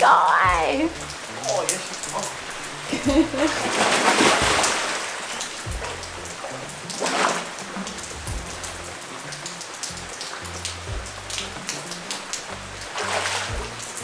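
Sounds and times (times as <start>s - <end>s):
rain on paving and water: 0.0s - 14.0s
background music with bass line: 0.4s - 14.0s.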